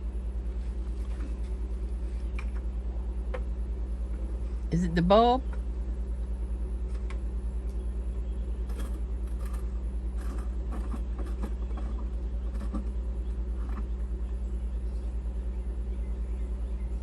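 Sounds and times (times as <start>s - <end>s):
engine running with pulsing hum: 0.0s - 17.0s.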